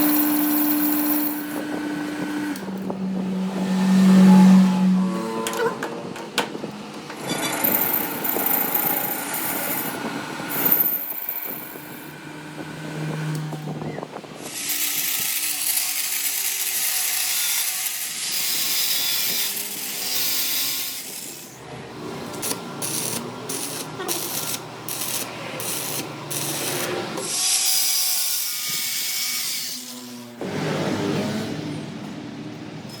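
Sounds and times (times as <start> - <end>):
power tool grinding steel: 0.0 - 5.8, 7.2 - 31.6.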